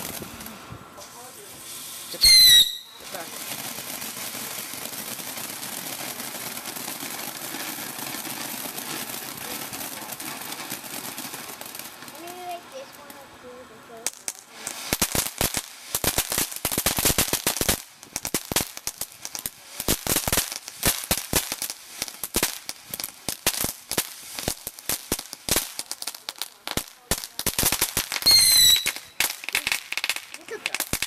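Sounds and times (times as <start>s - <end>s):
fireworks fountains crackling: 0.0s - 31.0s.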